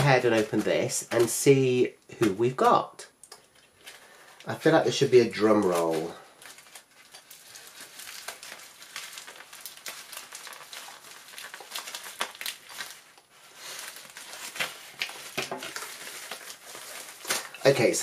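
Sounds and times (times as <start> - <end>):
plastic mailer bag crinkling: 0.0 - 2.8, 3.5 - 18.0.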